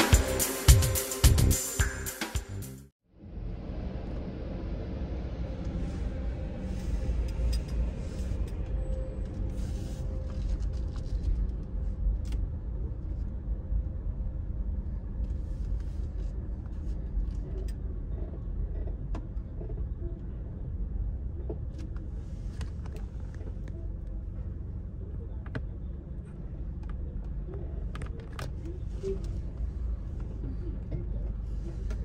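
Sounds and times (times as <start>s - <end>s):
car engine and tyres rumbling: 3.1s - 32.0s.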